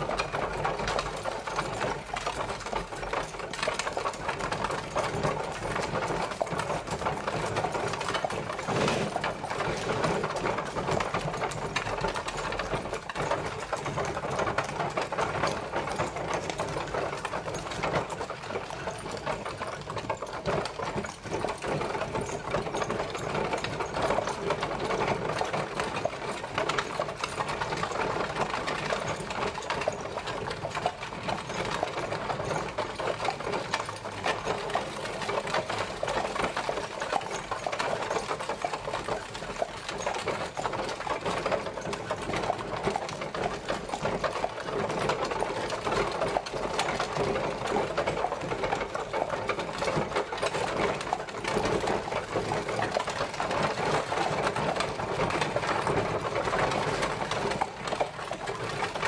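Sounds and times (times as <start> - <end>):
carriage rattling and clattering: 0.0 - 59.0.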